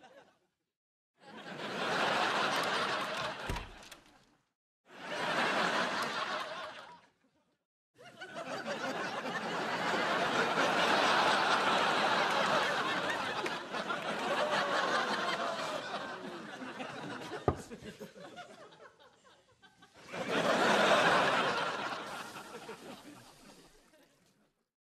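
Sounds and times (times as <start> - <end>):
audience laughter: 0.0 - 0.5, 1.2 - 3.9, 4.9 - 24.6.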